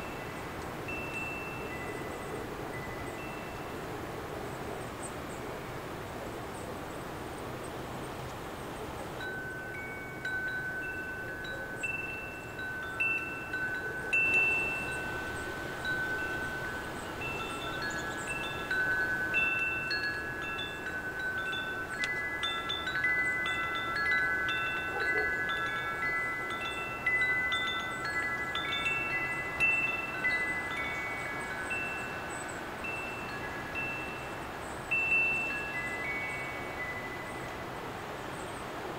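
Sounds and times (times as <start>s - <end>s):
wind chimes ringing: 0.0s - 3.9s, 9.2s - 38.9s.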